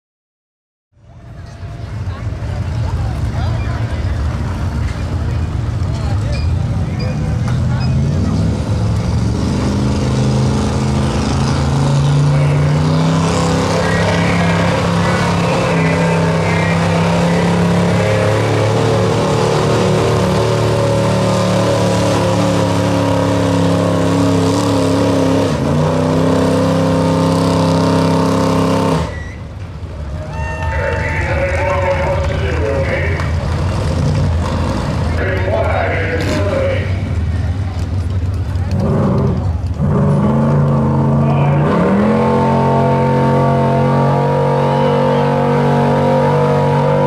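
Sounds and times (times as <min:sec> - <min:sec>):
truck engine revving hard: 0:01.8 - 0:29.8, 0:30.7 - 0:47.0.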